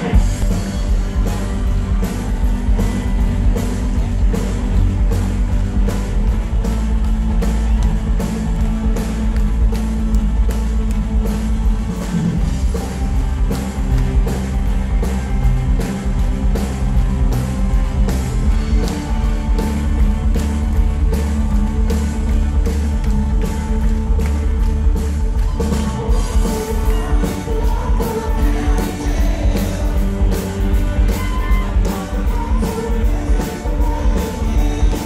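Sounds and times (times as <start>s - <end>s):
drums beating: 0.0s - 35.0s
heavy boomy bass: 0.0s - 35.0s
live rock band: 0.0s - 35.0s.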